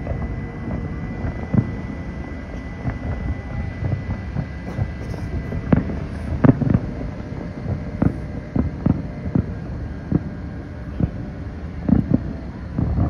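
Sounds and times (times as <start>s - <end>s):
distant fireworks bangs: 0.0s - 13.0s
steady low rumble: 0.0s - 13.0s.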